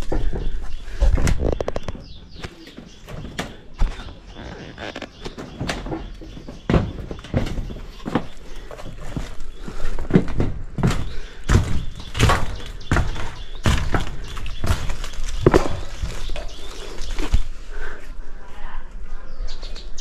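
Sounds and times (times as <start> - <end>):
footsteps on metal sheets and leaves: 0.0 - 17.6.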